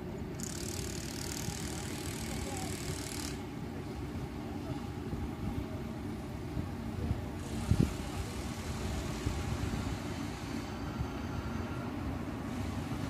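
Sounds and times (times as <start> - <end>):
low train rumble: 0.0 - 13.0
train hiss: 0.0 - 13.0.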